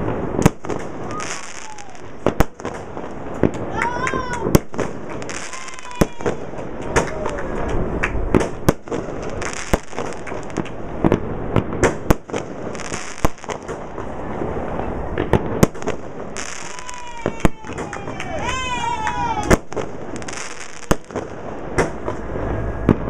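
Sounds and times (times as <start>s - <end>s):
firework bangs: 0.0s - 23.0s
firework crackling and hiss: 0.0s - 23.0s.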